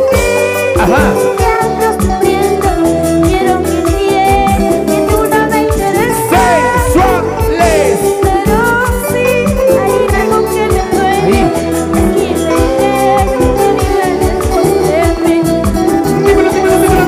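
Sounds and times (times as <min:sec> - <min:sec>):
latin dance band music: 0:00.0 - 0:17.0.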